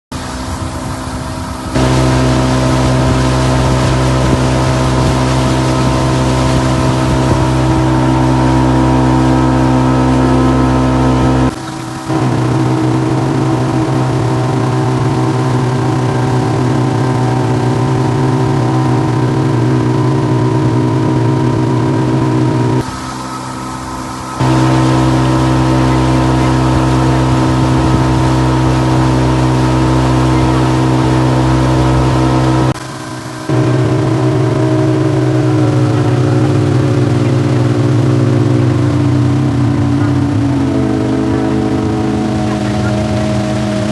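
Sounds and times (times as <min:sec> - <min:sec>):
motor running steadily: 0:00.1 - 0:43.9.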